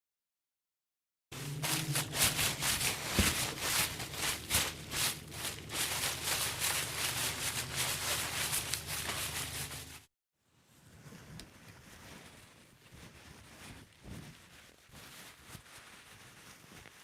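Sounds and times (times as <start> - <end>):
rustling scraping strokes: 1.4 - 10.1, 10.8 - 17.0.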